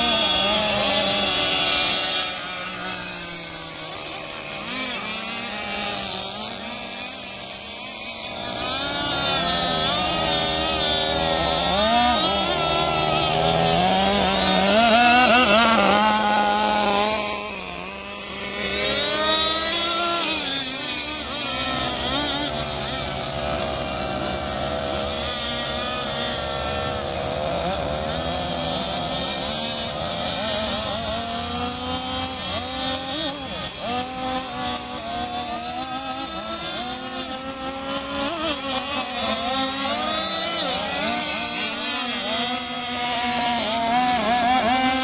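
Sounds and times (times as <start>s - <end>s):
model boat engine whining: 0.0s - 45.0s.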